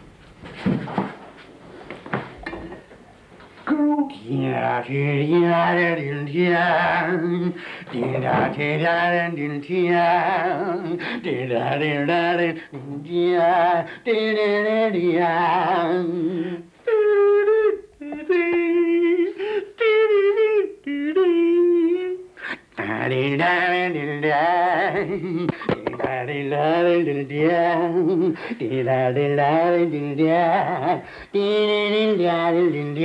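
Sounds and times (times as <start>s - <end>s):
man singing in lower voice: 3.6s - 33.0s.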